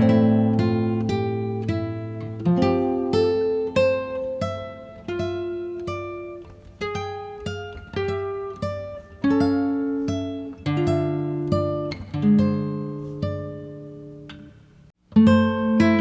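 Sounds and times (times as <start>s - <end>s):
acoustic guitar melody: 0.0s - 16.0s.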